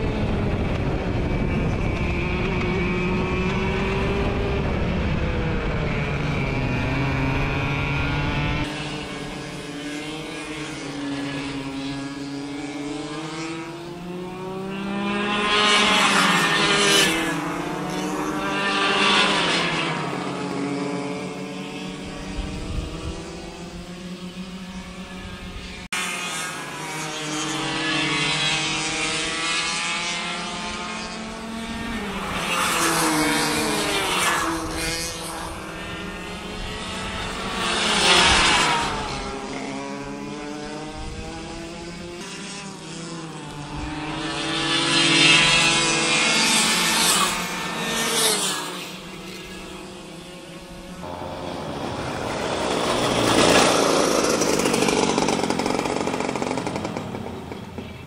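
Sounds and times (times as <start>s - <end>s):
go-kart engines passing: 0.0s - 58.0s.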